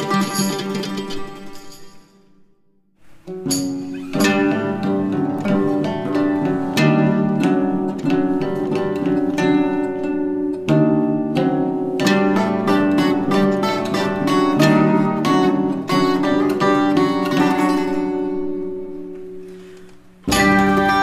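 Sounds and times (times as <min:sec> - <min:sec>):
plucked string melody: 0:00.0 - 0:21.0.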